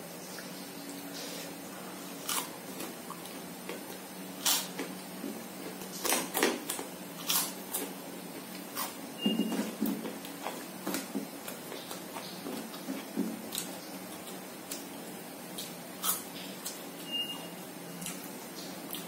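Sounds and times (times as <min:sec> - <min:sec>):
low steady hum: 0:00.0 - 0:19.0
person chewing: 0:00.3 - 0:16.9.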